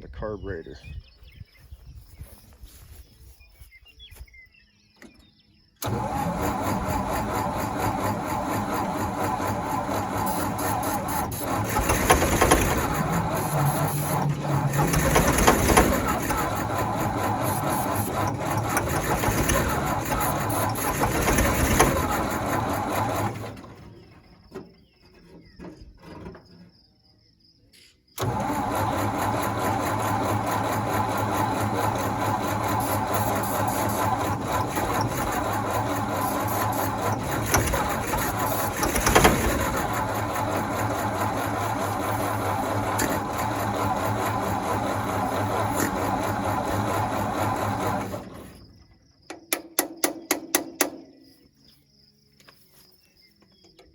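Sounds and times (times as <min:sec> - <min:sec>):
gasoline engine running: 0:05.0 - 0:26.6, 0:28.2 - 0:51.0.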